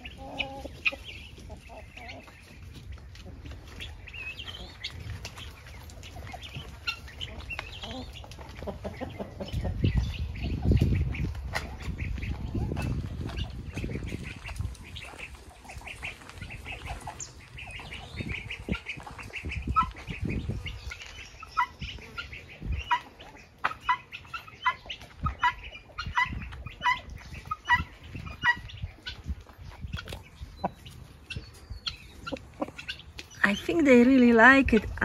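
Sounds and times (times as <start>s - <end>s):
poultry chattering calls: 0.0s - 35.0s.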